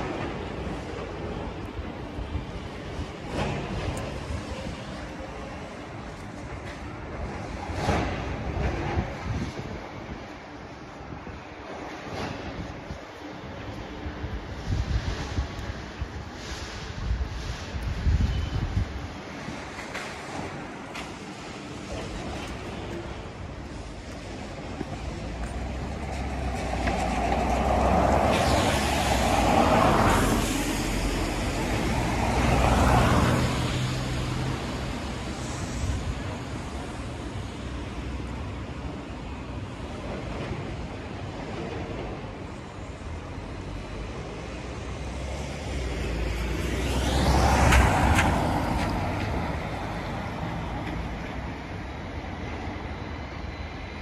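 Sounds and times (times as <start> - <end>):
cars passing on wet road: 0.0 - 54.0
low rumble of city traffic: 0.0 - 54.0.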